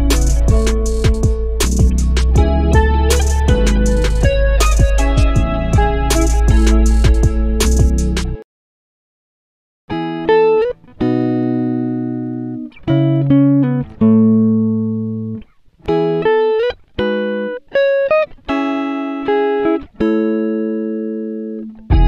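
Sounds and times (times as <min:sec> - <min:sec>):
guitar picked notes and chords: 0:00.0 - 0:08.4, 0:09.9 - 0:22.0.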